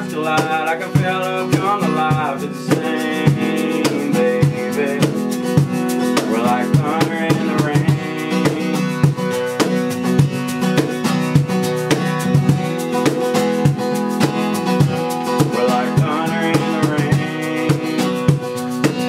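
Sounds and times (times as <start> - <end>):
acoustic guitar strumming: 0.0 - 19.0
hand percussion: 0.0 - 19.0.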